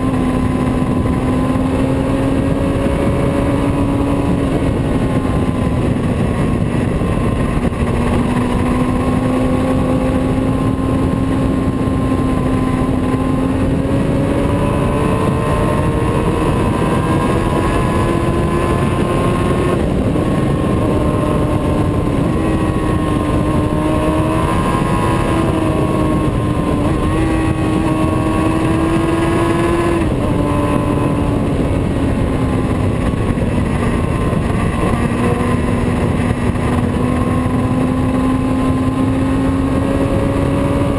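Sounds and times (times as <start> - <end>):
motorcycle engine running: 0.0 - 40.9
steady rushing noise: 0.0 - 40.9.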